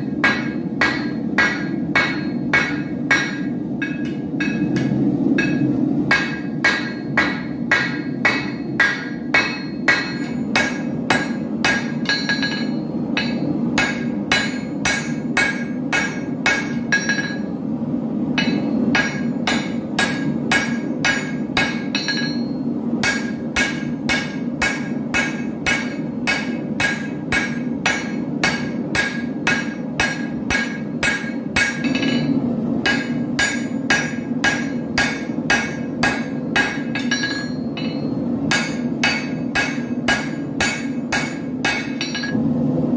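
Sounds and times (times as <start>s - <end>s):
hammer striking blade on anvil: 0.0s - 17.5s, 18.4s - 42.4s.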